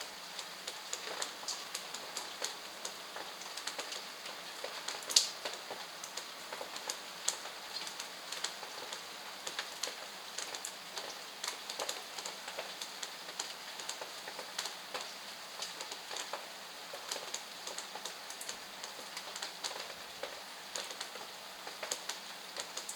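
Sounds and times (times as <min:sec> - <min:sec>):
raindrops ticking on hard surfaces: 0:00.0 - 0:22.9
steady rain: 0:00.0 - 0:22.9.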